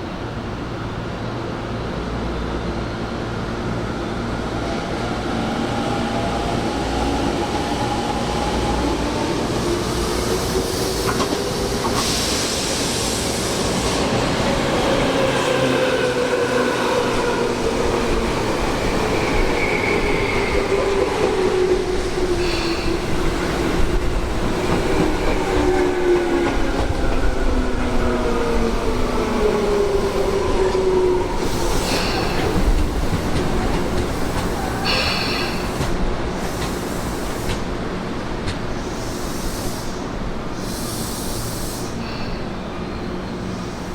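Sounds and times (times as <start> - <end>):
train whine sliding down: 2.6 - 43.9.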